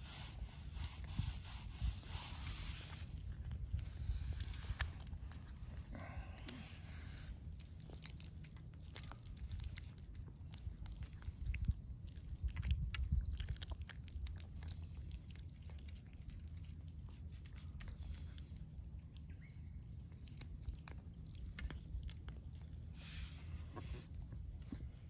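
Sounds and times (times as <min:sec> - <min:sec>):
cat chewing: 0:00.0 - 0:25.0.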